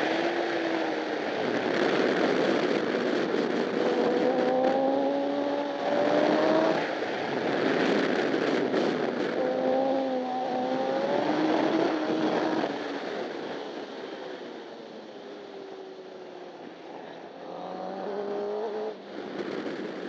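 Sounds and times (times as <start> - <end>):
motorcycle engine at racing speed: 0.0 - 20.0
wind rush: 0.0 - 20.0.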